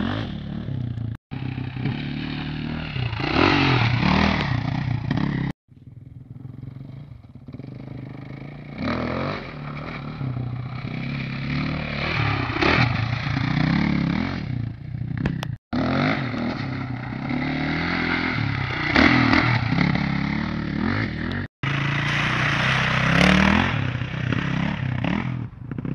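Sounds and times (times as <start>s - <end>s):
dirt bike engine revving: 0.0s - 5.6s, 6.2s - 25.9s.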